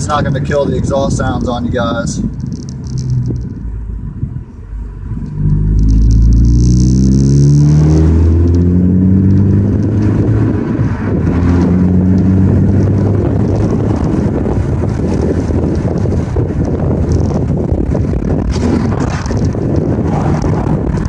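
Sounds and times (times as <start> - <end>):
car engine accelerating and shifting: 0.0 - 21.0.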